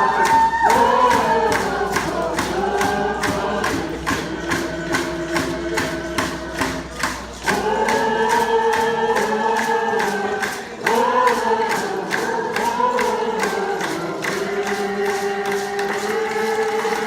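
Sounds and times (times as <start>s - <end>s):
group singing in unison: 0.0s - 17.0s
steady drumbeat: 0.0s - 17.0s.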